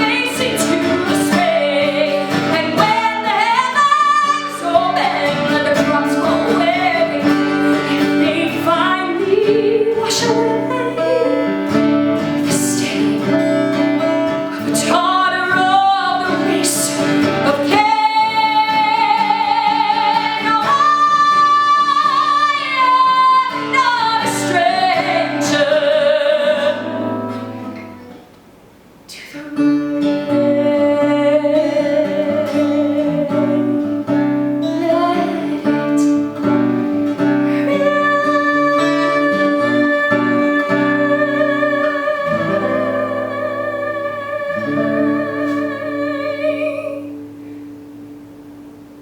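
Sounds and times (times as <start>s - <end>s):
woman singing: 0.0s - 28.1s, 29.1s - 47.8s
acoustic guitar: 0.0s - 49.0s.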